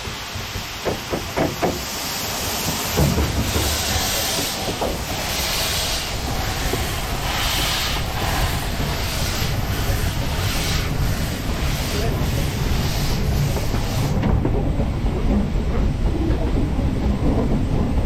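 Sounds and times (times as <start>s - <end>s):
hissing steam exhaust beats: 0.0s - 18.0s
steam locomotive rumbling: 0.0s - 18.0s.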